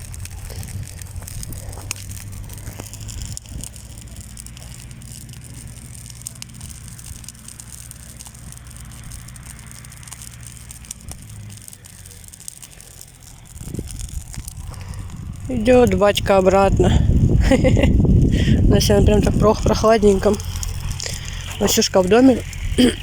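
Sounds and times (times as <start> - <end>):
light clicks and crackles: 0.0 - 23.0
tractor engine humming: 0.0 - 23.0.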